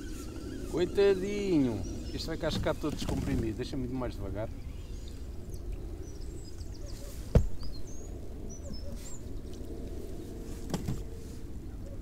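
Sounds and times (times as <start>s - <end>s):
small birds chirping: 0.0s - 11.2s.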